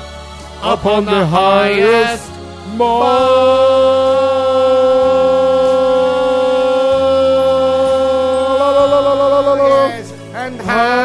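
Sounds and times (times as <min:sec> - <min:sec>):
low sustained backing chords: 0:00.0 - 0:11.0
man singing a long note: 0:00.6 - 0:11.0.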